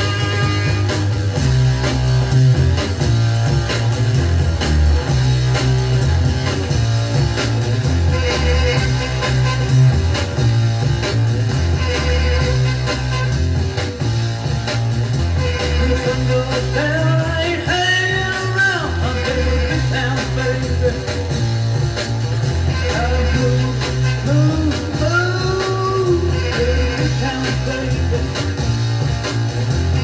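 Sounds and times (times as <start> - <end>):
drums: 0.0 - 30.0
electric guitar: 0.0 - 30.0
heavy bass line: 0.0 - 30.0.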